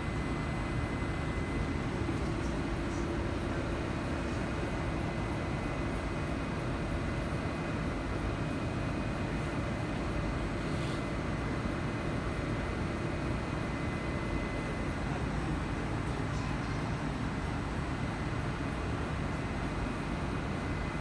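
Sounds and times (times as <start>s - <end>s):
metro train interior hum: 0.0s - 21.0s
thin steady whine: 0.0s - 21.0s.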